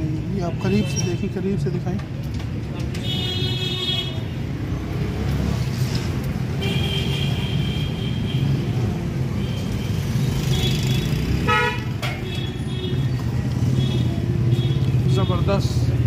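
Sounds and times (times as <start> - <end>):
motorcycle and vehicle engines: 0.0 - 3.3, 4.0 - 16.0.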